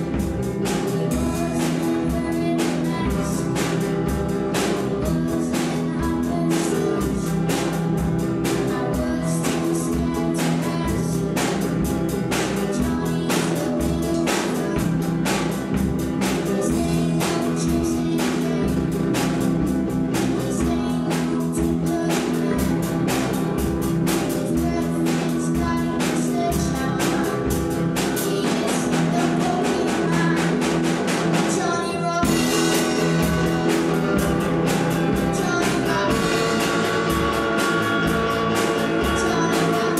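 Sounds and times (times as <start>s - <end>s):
bass guitar: 0.0s - 39.9s
drum kit beat: 0.0s - 39.9s
electric guitars: 0.0s - 39.9s
person singing lead vocal: 0.0s - 39.9s.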